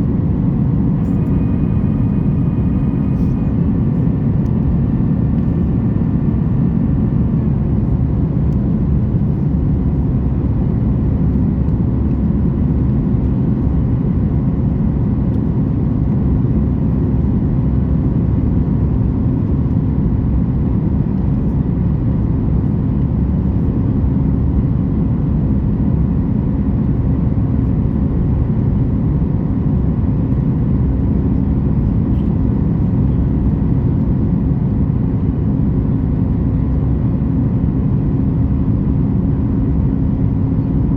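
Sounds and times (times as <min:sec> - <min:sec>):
airplane cabin roar: 0:00.0 - 0:40.9
faint steady hum: 0:00.0 - 0:40.9.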